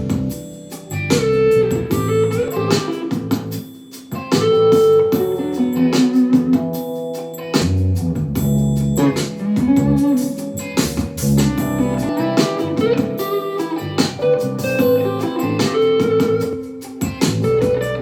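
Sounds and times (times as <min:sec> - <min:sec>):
electric guitar music on a speaker: 0:00.0 - 0:18.0.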